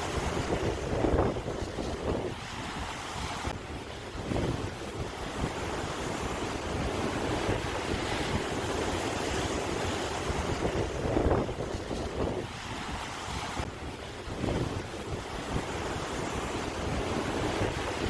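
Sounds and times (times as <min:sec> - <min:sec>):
sea waves breaking: 0:00.0 - 0:18.0
wind buffeting microphone: 0:00.0 - 0:18.0.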